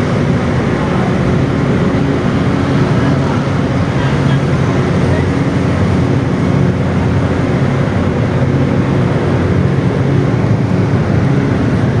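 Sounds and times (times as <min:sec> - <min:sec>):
city traffic rumble: 0:00.0 - 0:12.0
constant low hum: 0:00.0 - 0:12.0.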